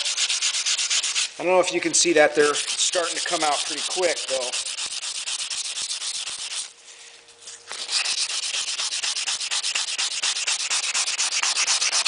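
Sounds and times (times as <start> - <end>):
sandpaper rubbing on metal: 0.0 - 1.3, 2.4 - 6.7, 7.7 - 12.0.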